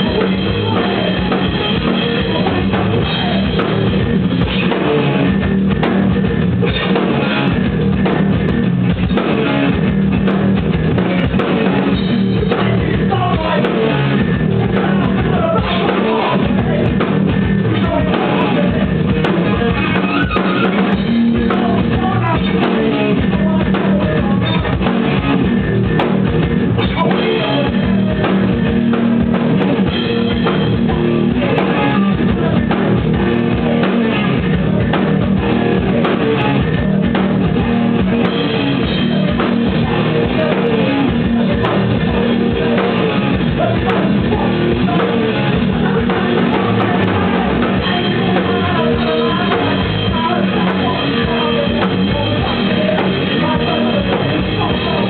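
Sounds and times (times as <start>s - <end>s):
punk band playing live: 0.0s - 55.0s.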